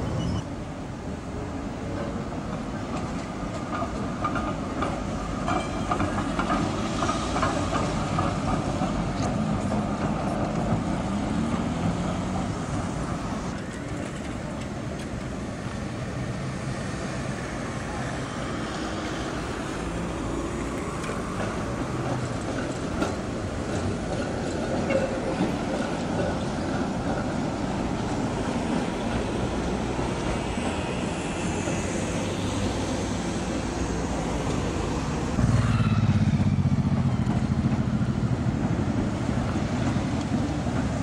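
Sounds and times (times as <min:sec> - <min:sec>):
city traffic: 0:00.0 - 0:41.0
tram wheels clattering on rails: 0:00.0 - 0:41.0.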